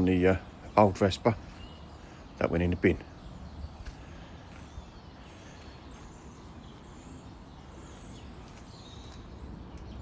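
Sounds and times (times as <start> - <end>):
bird chirps: 0.0 - 10.0
faint outdoor background noise: 0.0 - 10.0.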